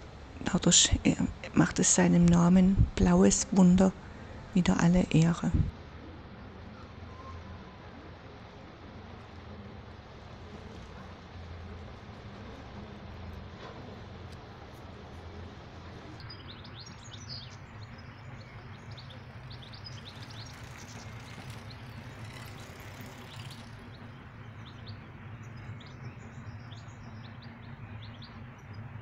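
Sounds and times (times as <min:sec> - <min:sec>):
songbirds chirping: 0:00.0 - 0:29.0
steady low hum: 0:00.0 - 0:29.0.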